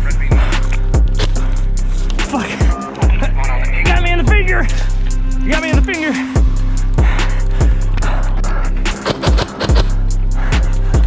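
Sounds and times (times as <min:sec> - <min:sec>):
music with deep bass beat: 0:00.0 - 0:11.0.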